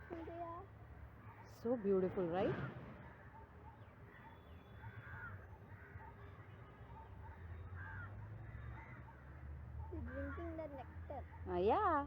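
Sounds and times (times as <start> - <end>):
faint bird calls: 0.0 - 11.7.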